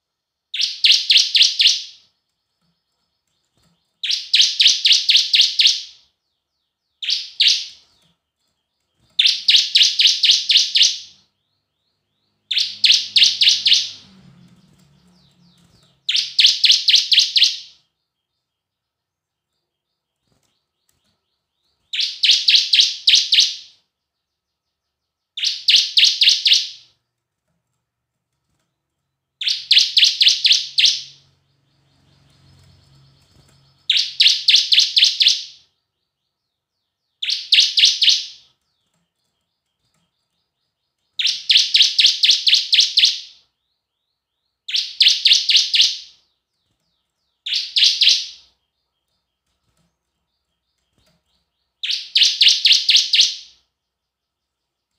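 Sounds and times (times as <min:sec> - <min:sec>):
bird singing sharp repeated notes: 0:00.4 - 0:27.0, 0:29.2 - 0:54.9.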